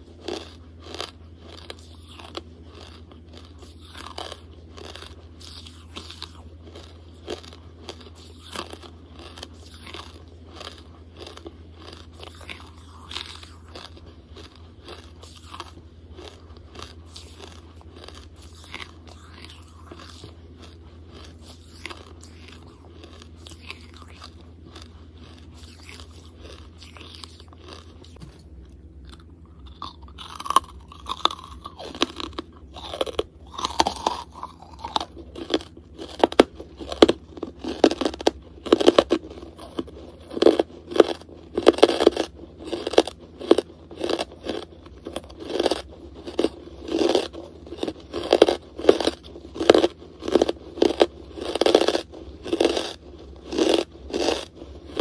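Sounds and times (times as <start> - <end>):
chewing brittle charcoal: 0.0 - 55.0
low hum: 0.0 - 55.0.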